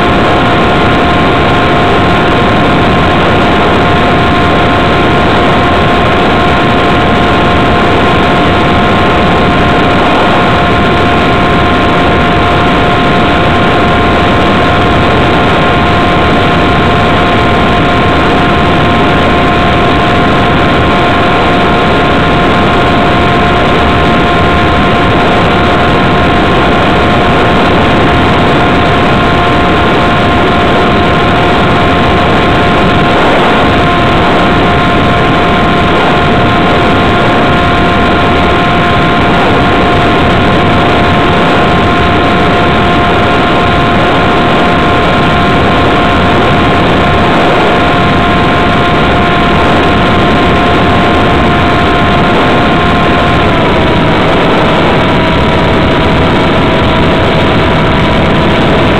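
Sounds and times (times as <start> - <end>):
model airplane motor whine: 0.0 - 58.9
rush of air: 0.0 - 58.9.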